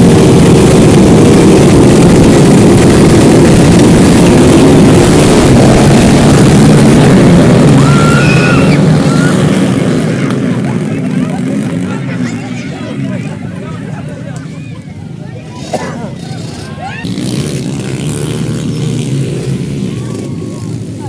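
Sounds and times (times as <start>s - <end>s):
small motorcycle engines revving: 0.0s - 21.0s.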